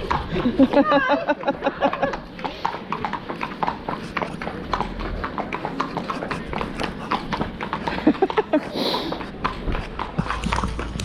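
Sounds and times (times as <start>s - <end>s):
horse hooves clip-clopping on paving: 0.0s - 11.0s.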